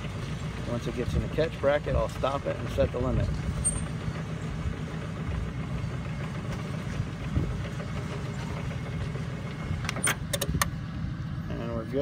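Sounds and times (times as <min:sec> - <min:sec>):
gate motor drone and rumble: 0:00.0 - 0:12.0.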